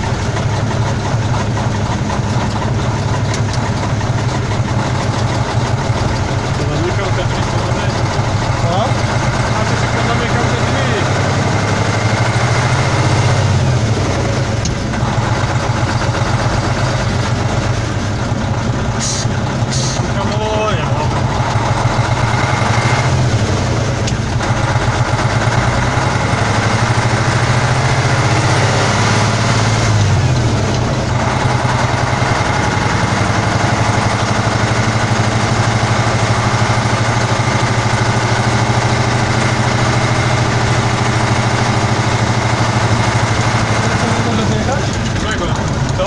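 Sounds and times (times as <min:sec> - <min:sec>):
truck diesel engine running: 0:00.0 - 0:46.0.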